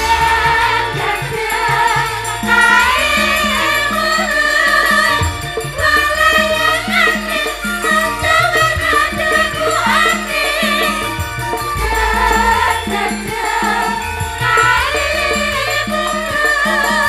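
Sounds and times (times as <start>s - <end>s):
bass line: 0.0s - 16.4s
gamelan: 0.0s - 17.0s
hand drum: 0.0s - 17.0s
women singing together: 0.0s - 17.0s.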